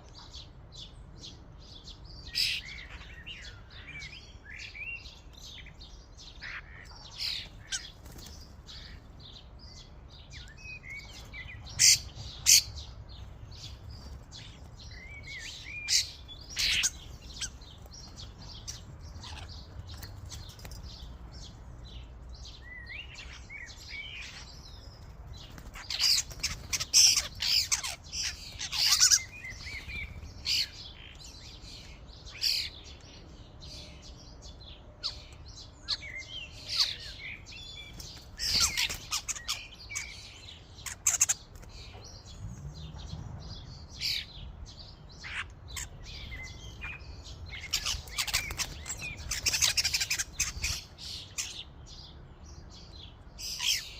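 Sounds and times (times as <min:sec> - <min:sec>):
starlings chirping and chattering: 0:00.0 - 0:53.9.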